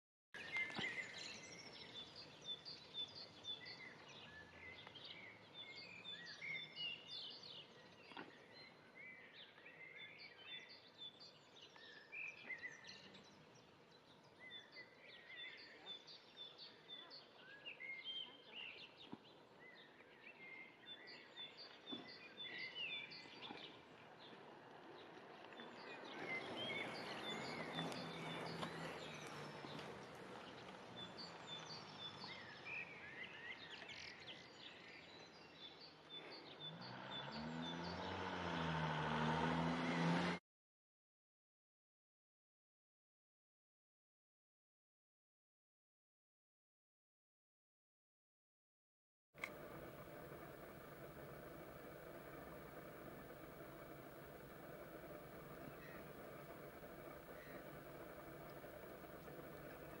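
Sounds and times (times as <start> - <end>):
small birds chirping: 0.4 - 40.4, 49.4 - 60.0.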